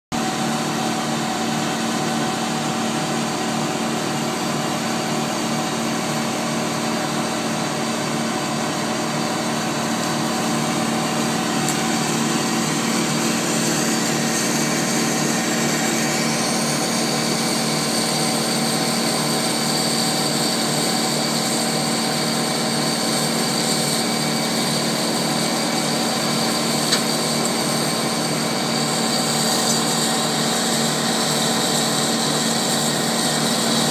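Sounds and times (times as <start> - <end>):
wood chipper engine running: 0.2 - 33.9.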